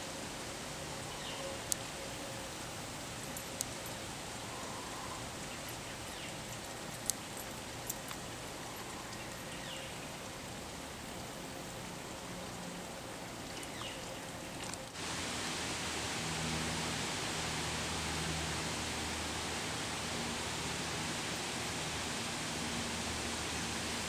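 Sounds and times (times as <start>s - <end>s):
garden ambience hiss: 0.0s - 24.0s.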